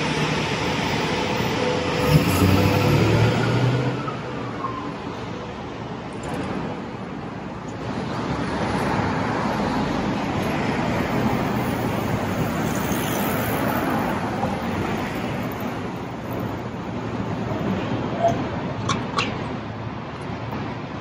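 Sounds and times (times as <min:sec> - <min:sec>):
passing vehicles rushing: 0:00.0 - 0:21.0.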